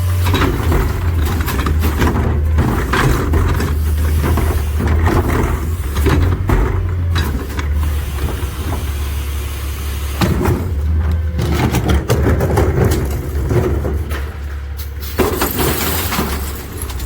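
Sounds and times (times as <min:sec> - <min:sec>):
garbage truck engine humming: 0:00.0 - 0:17.0
knocks and clatter: 0:00.2 - 0:09.0, 0:10.2 - 0:17.0.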